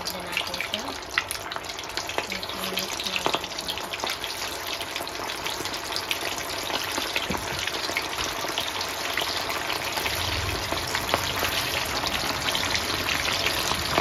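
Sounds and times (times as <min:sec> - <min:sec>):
wings deep-frying in oil: 0:00.0 - 0:14.0.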